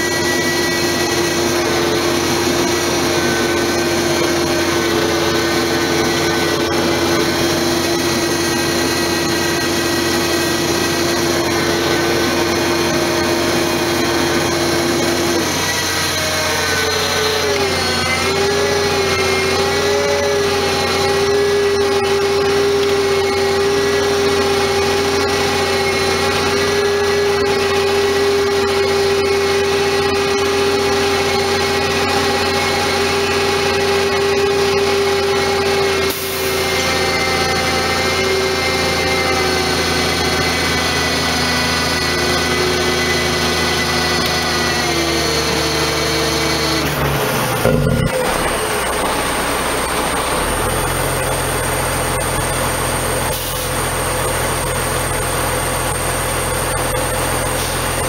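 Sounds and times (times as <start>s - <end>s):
truck engine hum: 0.0s - 58.0s
winch whining: 0.0s - 58.0s.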